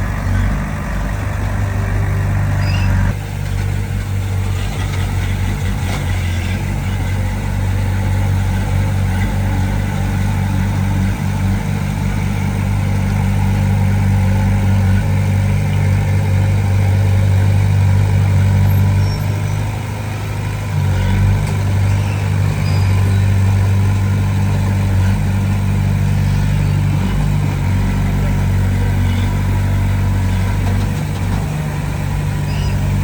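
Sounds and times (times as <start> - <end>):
heavy diesel engine under load: 0.0 - 33.0.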